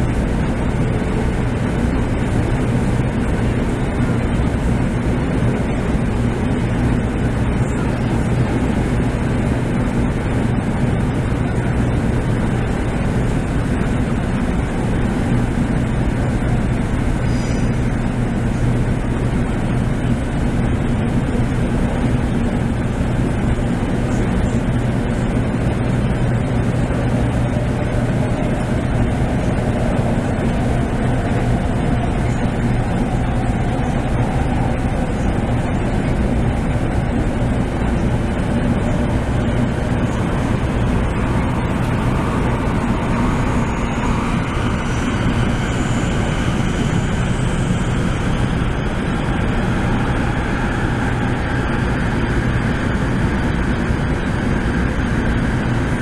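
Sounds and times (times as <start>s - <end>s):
faint train whine: 0.0s - 56.0s
train wheels rumbling: 0.0s - 56.0s.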